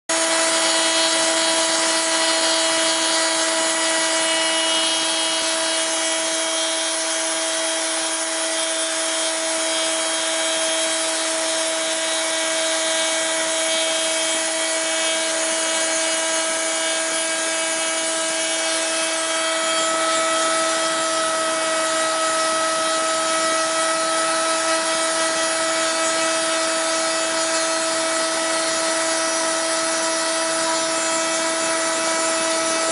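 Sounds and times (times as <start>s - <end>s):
router motor whining: 0.1s - 32.9s
bit cutting plywood hiss: 0.2s - 32.9s.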